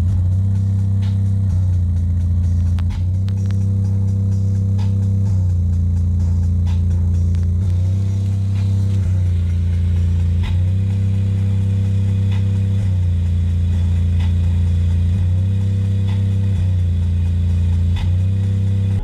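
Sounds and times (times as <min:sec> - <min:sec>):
deep bass from subwoofer: 0:00.0 - 0:19.0.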